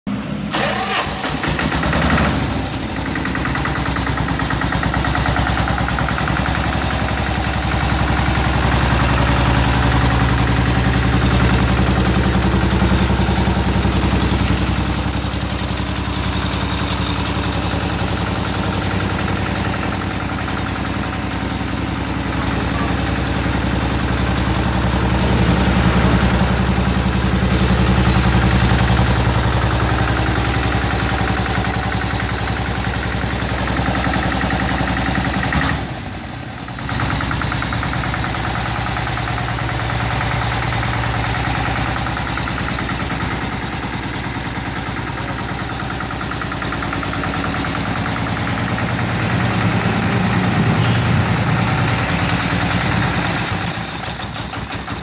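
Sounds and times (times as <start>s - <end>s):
diesel motorcycle engine idling: 0.1s - 55.0s.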